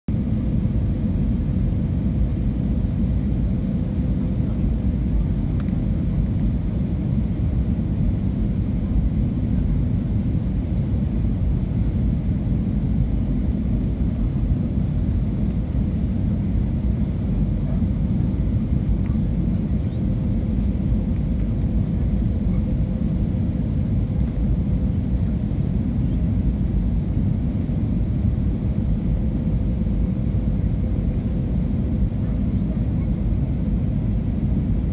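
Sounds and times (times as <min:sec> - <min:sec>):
airplane cabin rumble: 0:00.1 - 0:34.9.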